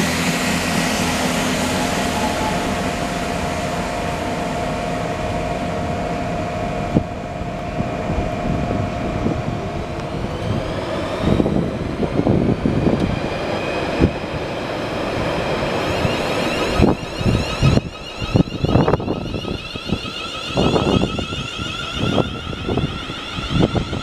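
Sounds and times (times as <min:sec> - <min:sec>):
electric train motor whine: 0:00.0 - 0:24.0
train rumble: 0:00.0 - 0:24.0.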